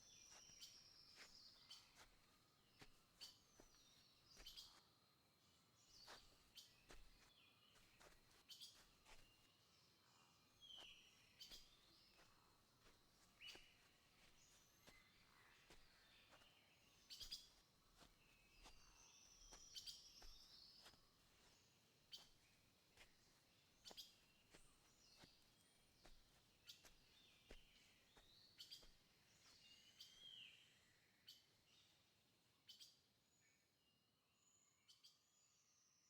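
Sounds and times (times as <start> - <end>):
faint birds chirping: 0.0 - 35.2.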